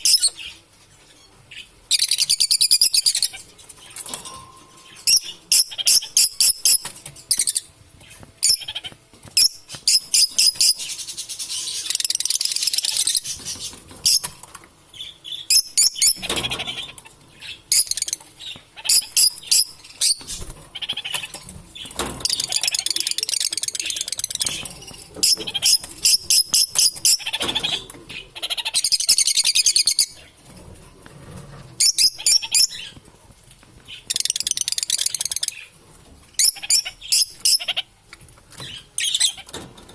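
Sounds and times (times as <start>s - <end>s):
lovebirds chirping: 0.0s - 30.4s, 31.8s - 33.0s, 33.9s - 35.8s, 36.4s - 39.5s.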